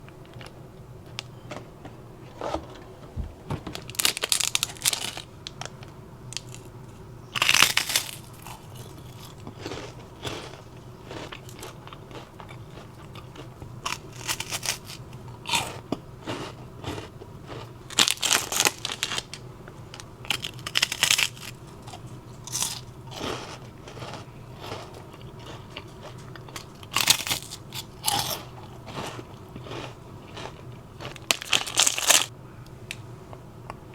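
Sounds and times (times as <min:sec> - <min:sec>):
faint low hum: 0:00.0 - 0:33.9
cookies crunching: 0:03.8 - 0:06.8, 0:07.4 - 0:19.4, 0:20.0 - 0:32.3.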